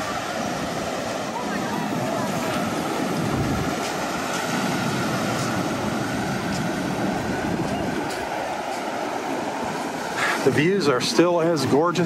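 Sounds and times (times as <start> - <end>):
wind buffeting microphone: 0.0 - 11.9
surf breaking on beach: 0.0 - 12.0.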